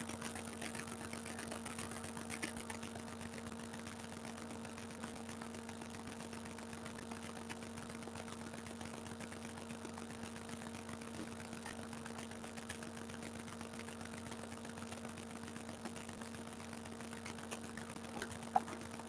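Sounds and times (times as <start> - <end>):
electrical hum and hiss: 0.0 - 19.0.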